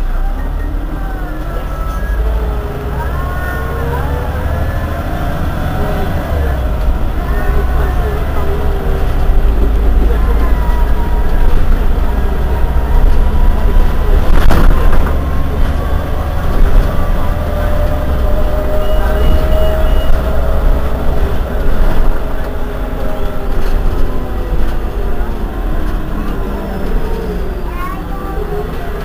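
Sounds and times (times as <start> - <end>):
bus engine rumble: 0.0 - 29.0.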